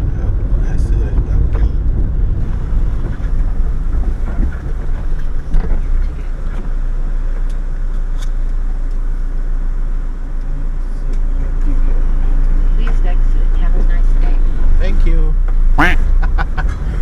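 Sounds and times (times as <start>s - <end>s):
car rumbling rolling slowly: 0.0s - 17.0s
engine idle hum: 0.0s - 17.0s.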